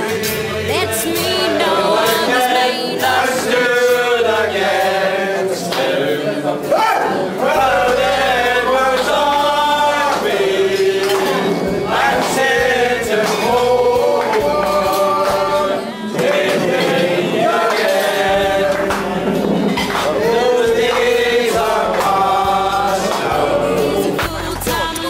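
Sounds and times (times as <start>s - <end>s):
men singing together: 0.0s - 25.0s.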